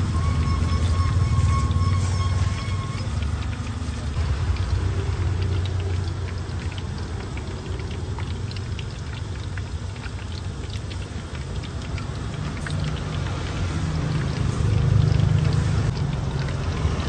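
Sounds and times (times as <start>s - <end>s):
faint crackling ticks: 2.2s - 17.0s.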